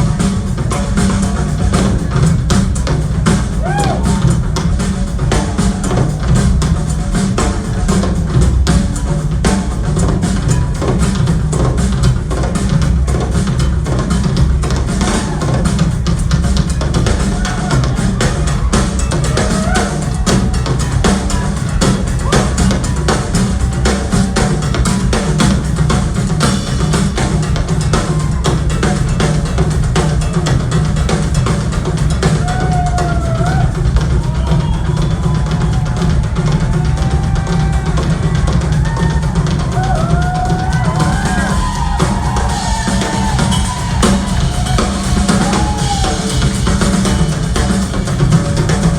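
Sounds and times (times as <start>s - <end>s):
drum kit pounding: 0.0s - 48.9s.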